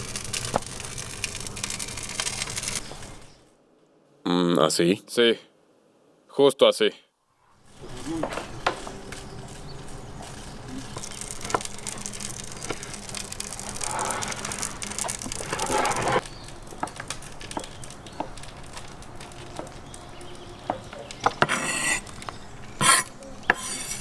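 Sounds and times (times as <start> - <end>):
rustling hiss: 0.0 - 3.5, 7.3 - 24.0.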